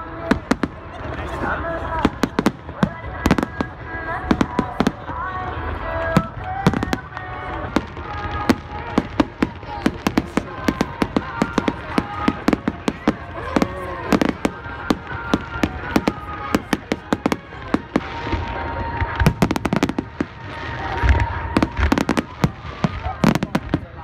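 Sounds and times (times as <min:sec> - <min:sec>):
fireworks cracking and popping: 0:00.0 - 0:24.0
voices: 0:00.0 - 0:24.0.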